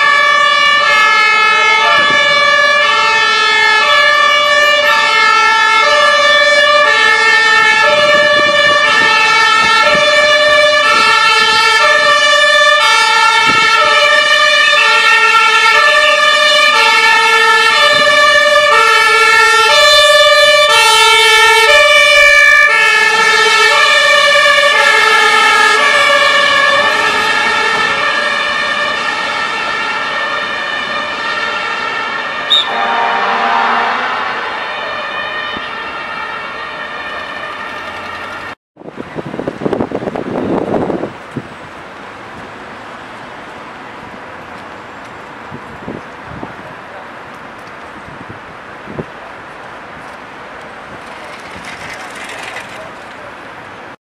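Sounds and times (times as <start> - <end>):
two-tone sirens blaring: 0.0 - 50.6.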